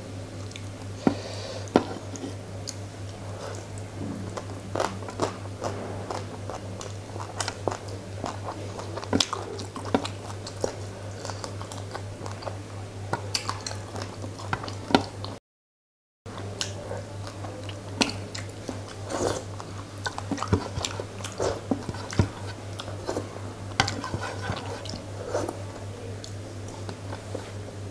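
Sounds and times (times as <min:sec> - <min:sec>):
steady low hum: 0:00.0 - 0:15.4, 0:16.3 - 0:27.9
wet chewing and mouth smacking: 0:00.4 - 0:00.8, 0:01.9 - 0:15.4, 0:16.3 - 0:25.6.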